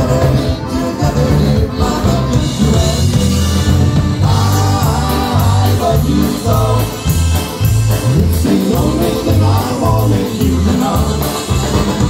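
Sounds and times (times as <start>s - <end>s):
accordion: 0.0s - 12.0s
drums: 0.0s - 12.0s
electric bass: 0.0s - 12.0s
person singing: 0.0s - 12.0s
polka band playing: 0.0s - 12.0s.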